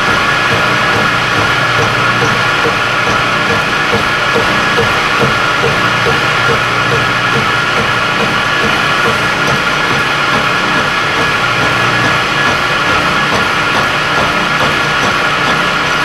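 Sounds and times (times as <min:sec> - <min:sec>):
milling machine hum: 0:00.0 - 0:16.0
light regular ticking: 0:00.3 - 0:15.6.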